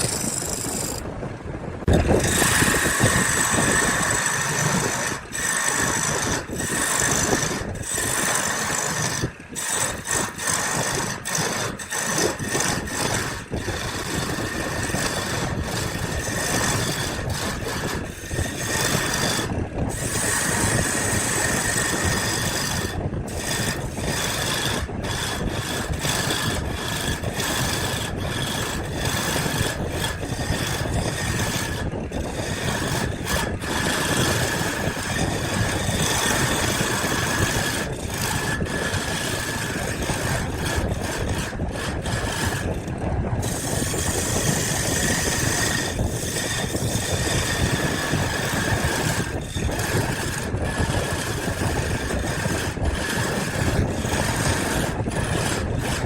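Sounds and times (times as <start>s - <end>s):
power tool grinding wood: 0.0s - 56.0s.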